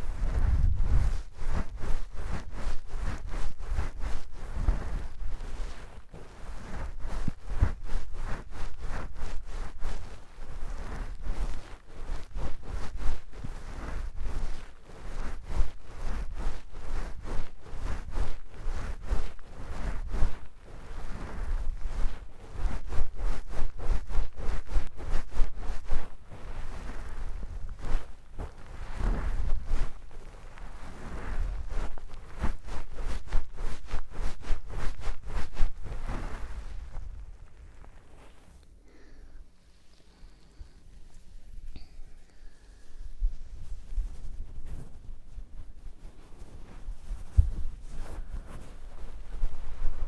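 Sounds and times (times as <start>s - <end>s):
towel rubbing against microphone: 0.0s - 39.1s, 42.7s - 50.0s
low rumble of cloth handling: 0.0s - 50.0s.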